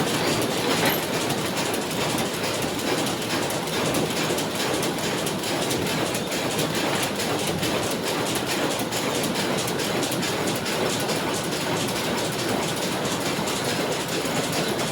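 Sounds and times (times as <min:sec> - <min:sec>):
machine clattering and whirring: 0:00.0 - 0:14.9.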